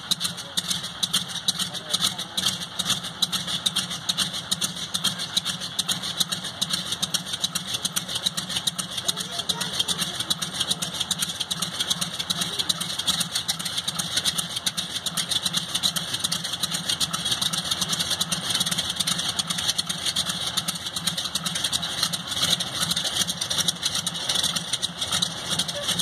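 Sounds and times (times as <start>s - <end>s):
aircraft radial engines idling: 0.0s - 26.0s.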